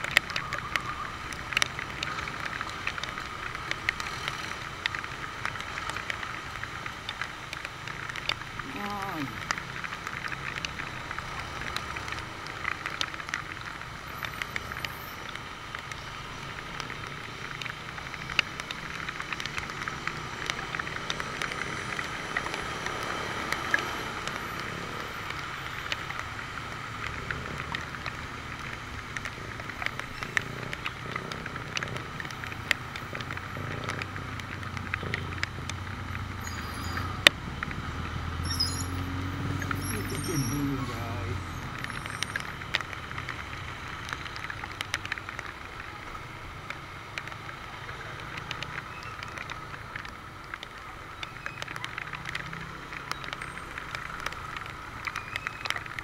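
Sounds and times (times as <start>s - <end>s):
rain hiss on wet road: 0.0s - 56.0s
raindrops clicking on camera: 0.0s - 56.0s.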